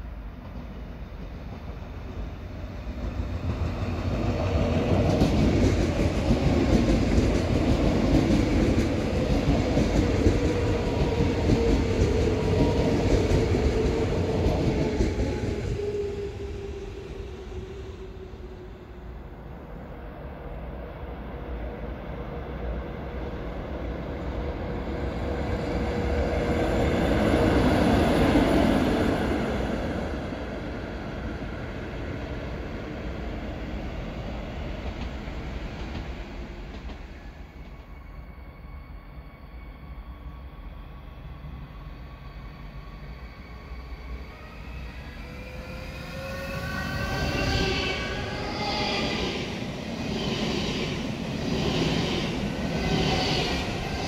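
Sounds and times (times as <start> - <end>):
train wheels rumbling on rails: 0.0 - 18.9, 23.3 - 38.2, 44.0 - 54.0
electric locomotive passing: 0.0 - 54.0
electric train whine: 0.0 - 54.0.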